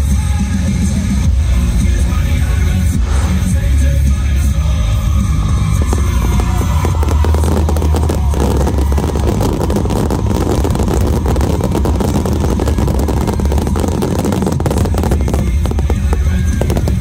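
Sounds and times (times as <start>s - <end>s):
firework crackling: 0.0s - 17.0s
fireworks bursting: 0.8s - 17.0s.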